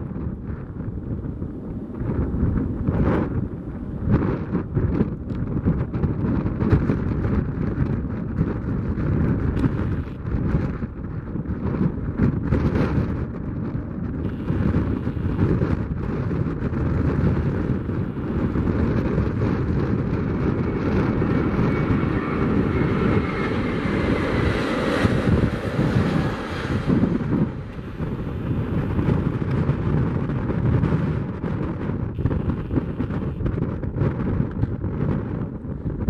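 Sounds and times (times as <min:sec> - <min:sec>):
jet engines at takeoff: 0:00.0 - 0:36.0
wind buffeting microphone: 0:00.0 - 0:36.0.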